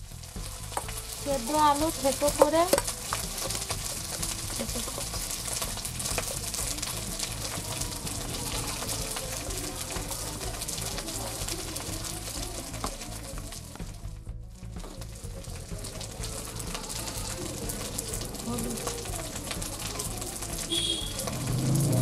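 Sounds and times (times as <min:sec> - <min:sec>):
potatoes squashing and scraping: 0:00.0 - 0:22.0.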